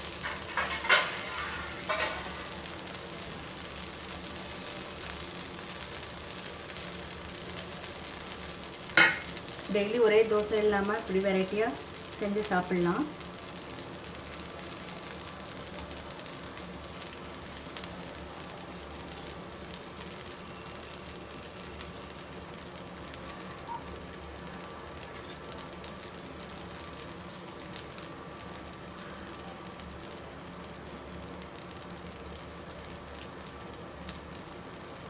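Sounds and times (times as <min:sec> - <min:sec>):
oil sizzling on a hot pan: 0:00.0 - 0:35.0.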